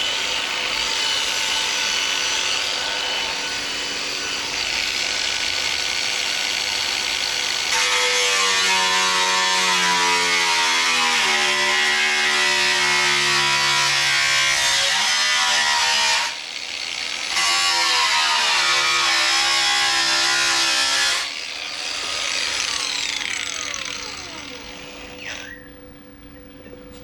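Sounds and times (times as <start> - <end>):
angle grinder grinding metal: 0.0 - 25.7.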